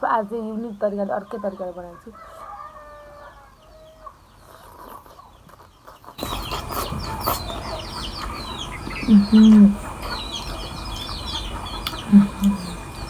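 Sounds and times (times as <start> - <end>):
chickens clucking: 0.4 - 13.0
chicks peeping: 0.7 - 13.0.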